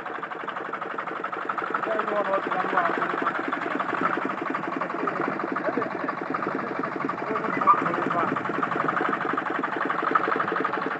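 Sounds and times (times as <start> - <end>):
tractor engine chugging: 0.0 - 10.9.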